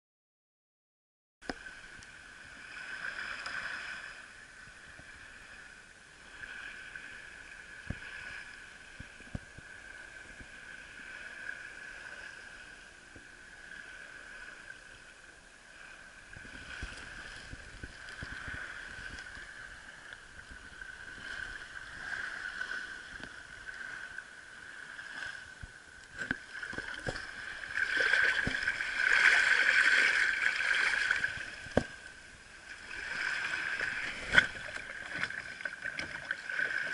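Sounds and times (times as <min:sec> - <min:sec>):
seawater lapping on beach: 0:01.4 - 0:36.9.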